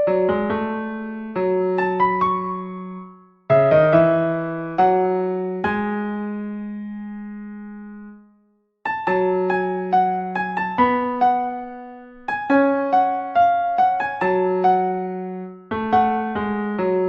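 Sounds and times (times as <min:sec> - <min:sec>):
solo piano melody: 0:00.0 - 0:17.0.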